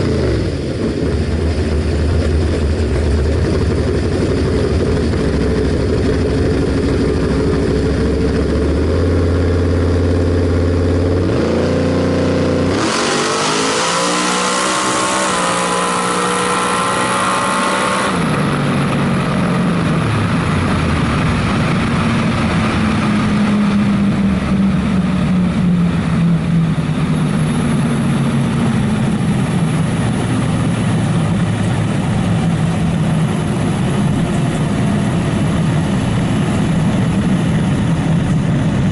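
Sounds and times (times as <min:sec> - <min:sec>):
drag car engine revving: 0:00.0 - 0:38.9.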